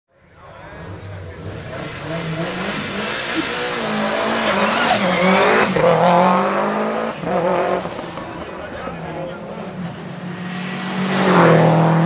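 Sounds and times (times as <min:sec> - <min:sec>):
car engine revving hard: 0:00.8 - 0:08.6, 0:10.1 - 0:12.0.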